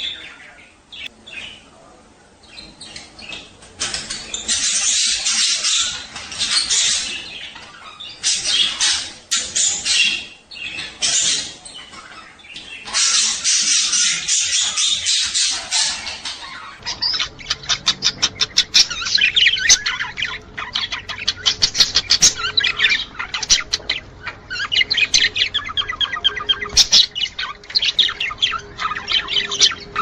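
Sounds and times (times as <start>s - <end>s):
budgerigars chattering: 2.4s - 30.0s.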